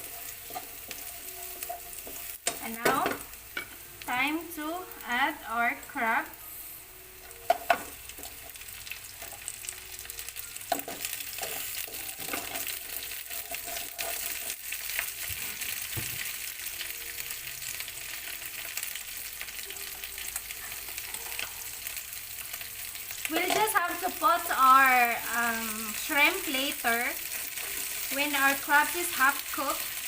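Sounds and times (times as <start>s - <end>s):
crabs sizzling in oil: 0.0s - 30.0s.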